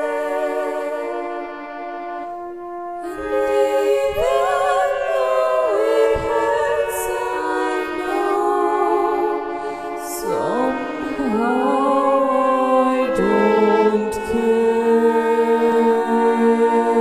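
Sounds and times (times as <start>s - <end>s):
singing voice with vibrato: 0.0s - 17.0s
slow classical-style song: 0.0s - 17.0s.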